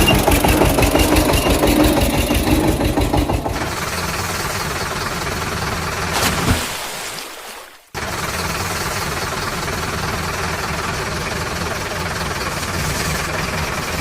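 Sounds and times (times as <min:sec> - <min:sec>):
engine running low rumble: 0:00.0 - 0:06.4, 0:08.0 - 0:14.0.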